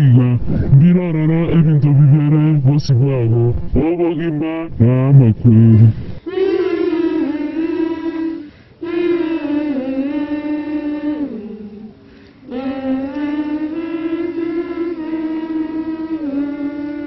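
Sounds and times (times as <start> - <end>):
person singing unaccompanied: 0.0 - 17.0.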